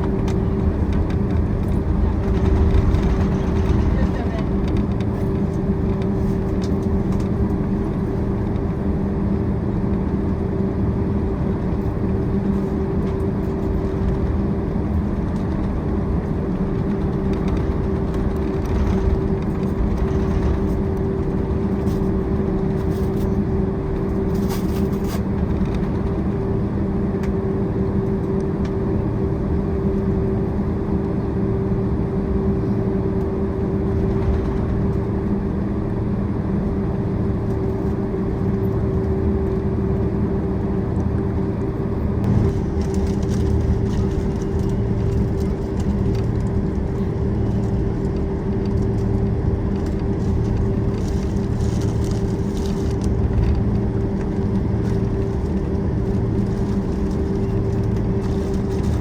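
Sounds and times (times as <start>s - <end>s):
jet engines running at low power: 0.0s - 59.0s.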